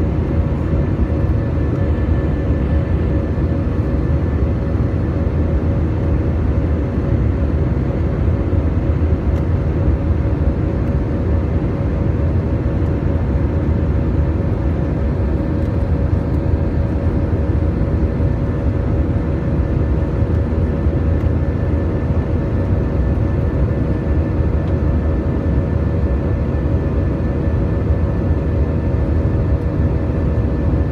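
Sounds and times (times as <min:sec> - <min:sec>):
airplane engines rumbling: 0:00.0 - 0:30.9.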